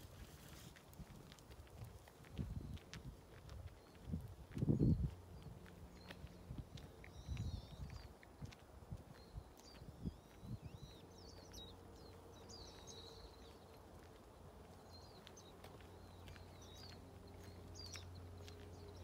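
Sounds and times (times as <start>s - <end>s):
footsteps on pavement: 0.0s - 19.0s
small birds chirping: 0.0s - 19.0s.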